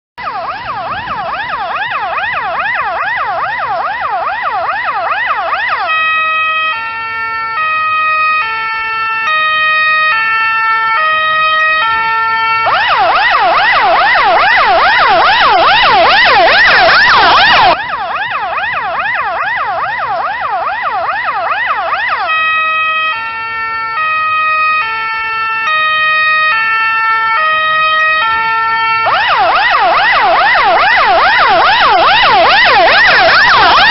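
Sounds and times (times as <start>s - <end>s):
ambulance siren: 0.2s - 33.9s.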